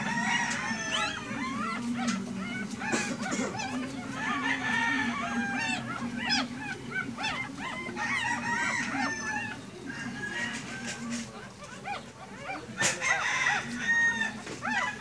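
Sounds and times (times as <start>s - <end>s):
puppies squealing and whimpering: 0.0s - 15.0s.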